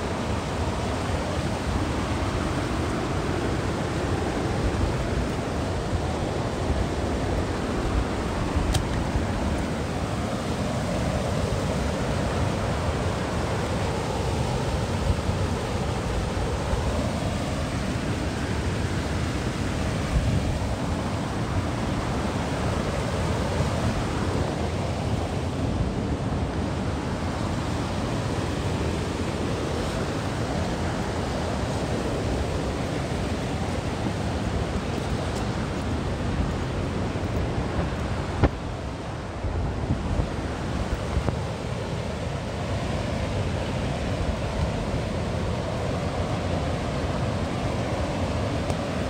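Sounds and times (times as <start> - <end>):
waterfall rushing: 0.0 - 49.0
wind rumbling on microphone: 0.0 - 49.0.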